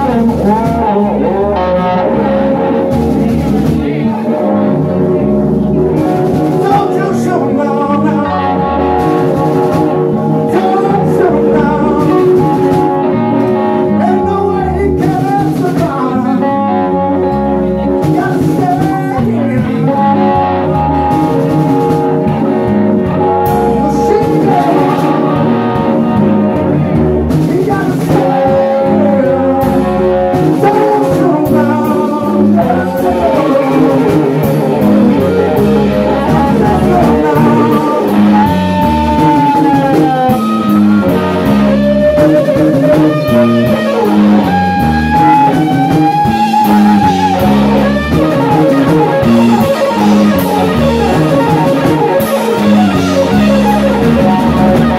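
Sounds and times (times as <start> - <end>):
bass guitar: 0.0 - 54.9
drums: 0.0 - 54.9
electric guitar bending notes: 0.0 - 54.9.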